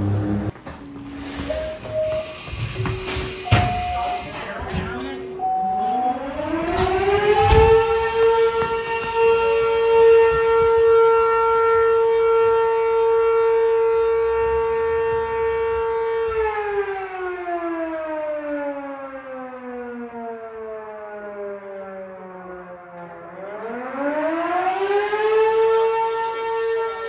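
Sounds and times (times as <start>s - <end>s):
mechanical fire siren wailing: 1.4s - 27.0s.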